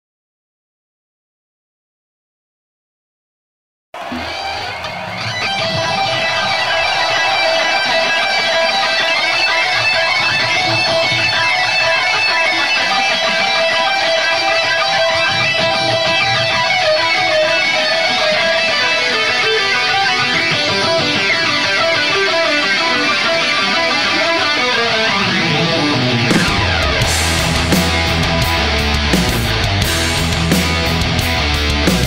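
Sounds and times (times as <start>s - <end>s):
electric guitars playing fast riff: 4.0s - 32.0s
heavy metal band playing live: 4.0s - 32.0s.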